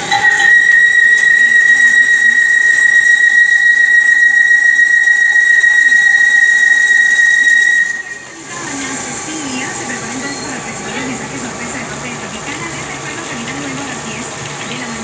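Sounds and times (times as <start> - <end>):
lathe cutting tool squealing: 0.0 - 15.0.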